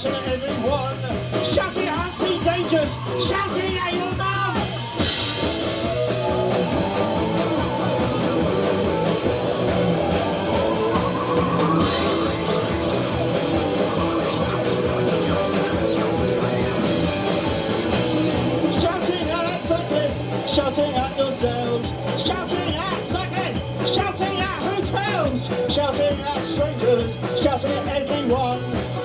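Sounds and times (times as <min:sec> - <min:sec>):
bass guitar: 0:00.0 - 0:29.0
distorted electric guitars: 0:00.0 - 0:29.0
drum kit beat: 0:00.0 - 0:29.0.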